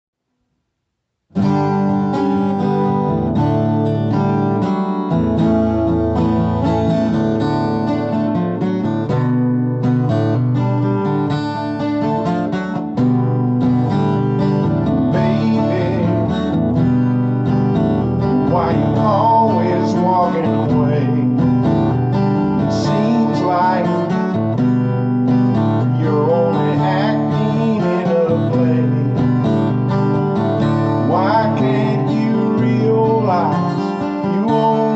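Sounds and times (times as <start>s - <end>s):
acoustic guitar music: 1.3s - 34.9s.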